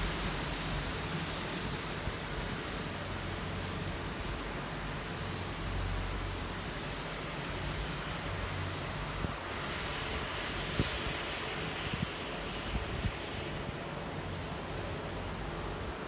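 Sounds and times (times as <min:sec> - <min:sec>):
rain hiss on wet road: 0:00.0 - 0:16.0.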